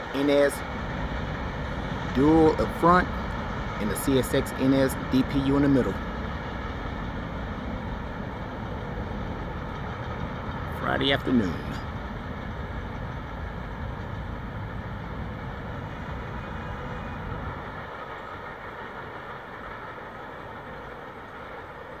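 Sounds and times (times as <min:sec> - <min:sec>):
freight train cars rumbling: 0:00.0 - 0:22.0.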